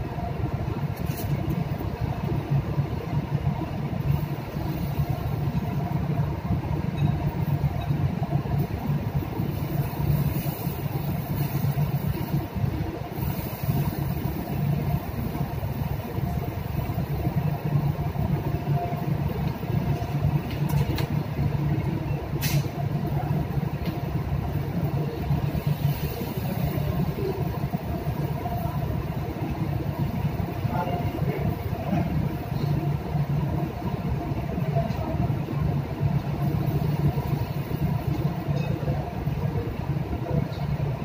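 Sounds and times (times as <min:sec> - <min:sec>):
ship machinery rumble: 0:00.0 - 0:41.0.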